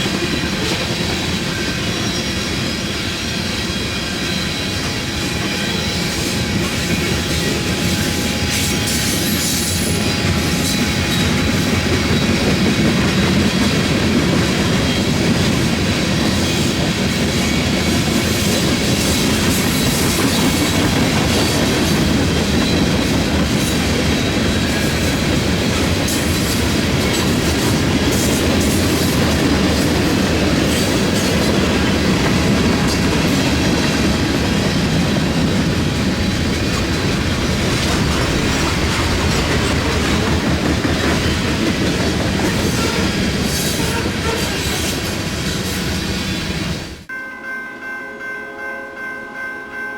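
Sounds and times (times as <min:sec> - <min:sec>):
steel wheels rolling on rail: 0:00.0 - 0:47.1.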